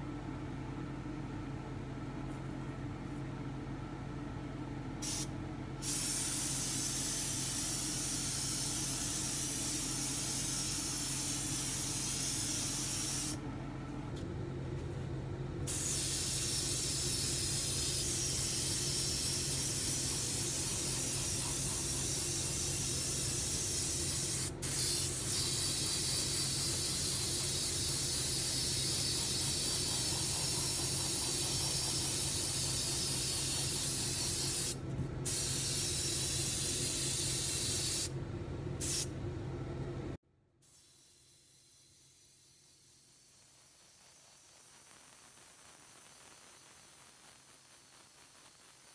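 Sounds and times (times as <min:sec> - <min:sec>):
airbrush hissing: 0:05.0 - 0:13.4, 0:15.7 - 0:38.1, 0:38.8 - 0:39.1, 0:40.6 - 0:48.9.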